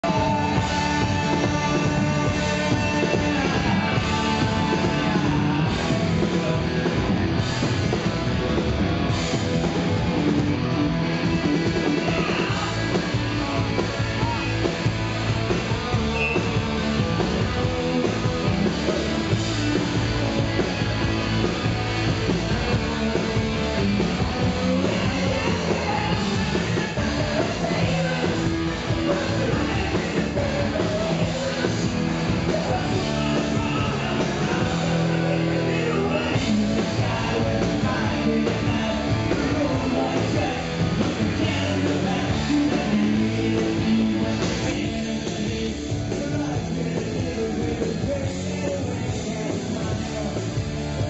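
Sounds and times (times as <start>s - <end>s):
man singing: 0.0s - 7.9s, 11.3s - 21.4s, 22.0s - 51.0s
rock band playing live: 0.0s - 51.0s.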